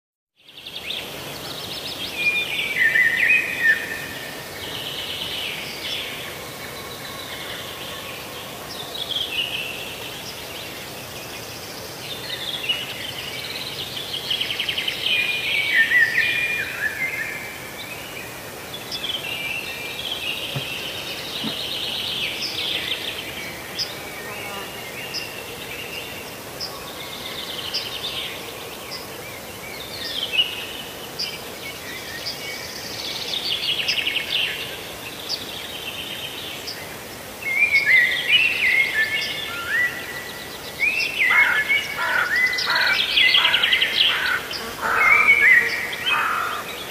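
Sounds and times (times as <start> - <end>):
outdoor background hiss: 0.4 - 46.9
songbird singing: 0.4 - 46.9.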